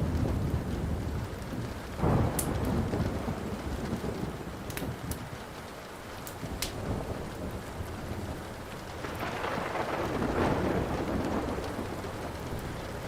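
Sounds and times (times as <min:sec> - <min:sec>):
thunder rolling: 0:00.0 - 0:05.4, 0:06.4 - 0:13.0
faint wood fire crackling: 0:00.0 - 0:13.0
steady rain: 0:00.0 - 0:13.0.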